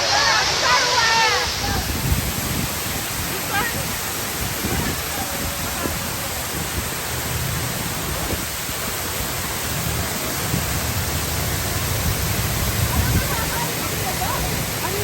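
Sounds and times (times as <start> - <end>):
water pouring down fountain wall: 0.0 - 15.0
wind rumble on microphone: 0.8 - 15.0.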